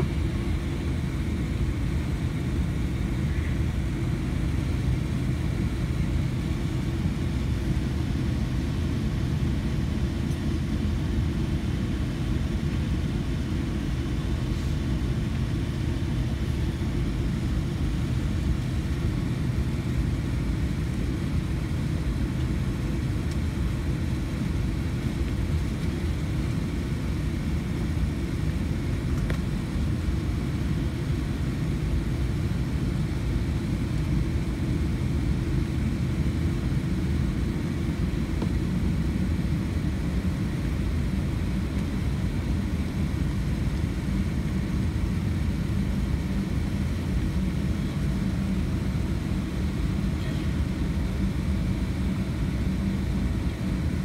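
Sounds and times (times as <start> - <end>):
airliner cabin rumble while taxiing: 0.0 - 54.0.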